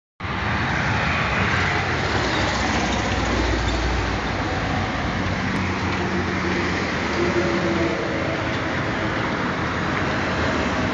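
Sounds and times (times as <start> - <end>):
highway traffic driving past: 0.2 - 10.9.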